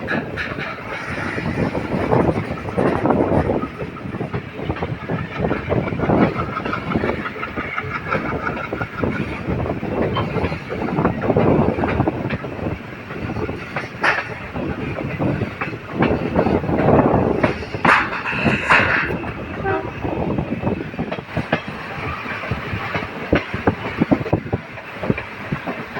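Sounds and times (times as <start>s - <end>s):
train rumbling: 0.0s - 25.9s
train wheels clacking over rail joints: 0.0s - 25.9s.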